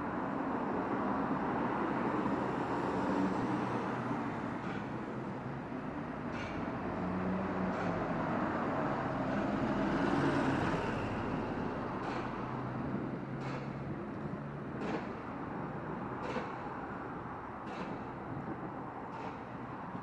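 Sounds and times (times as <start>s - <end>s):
bus diesel engine running: 2.2s - 19.4s.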